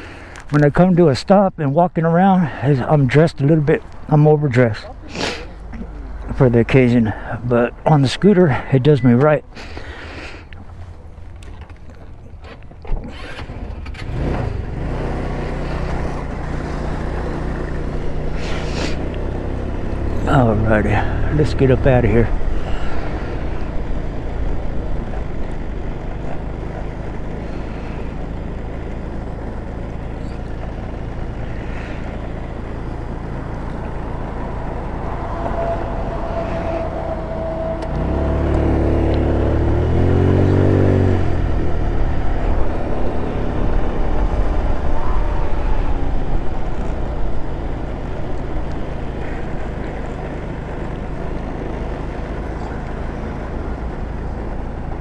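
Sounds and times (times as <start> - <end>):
road noise: 0.0 - 55.0
scooter engine running: 9.2 - 55.0.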